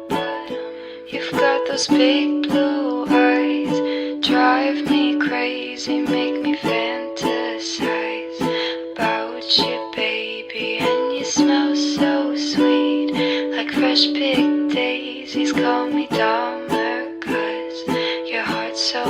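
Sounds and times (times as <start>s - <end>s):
ukulele strumming: 0.0s - 19.0s.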